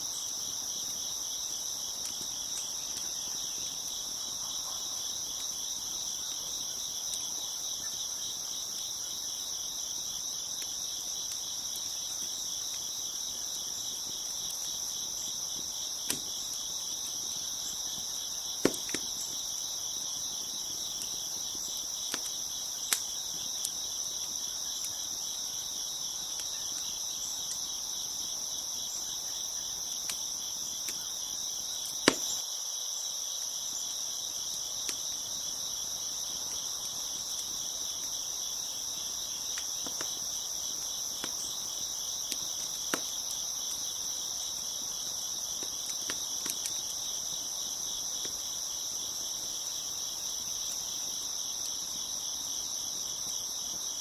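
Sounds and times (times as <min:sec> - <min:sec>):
wood fire popping and crackling: 0:00.0 - 0:32.4, 0:33.4 - 0:54.0
crickets chirping: 0:00.0 - 0:54.0.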